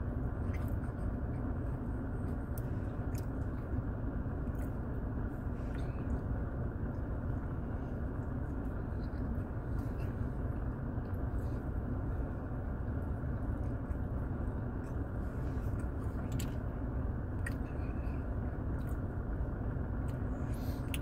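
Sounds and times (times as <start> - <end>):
car cabin engine rumble: 0.0 - 21.0.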